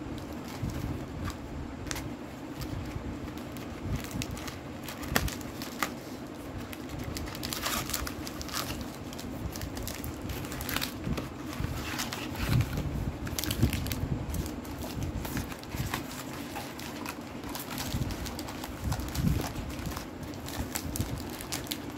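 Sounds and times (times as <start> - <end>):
foil and card crinkling: 0.1 - 21.9.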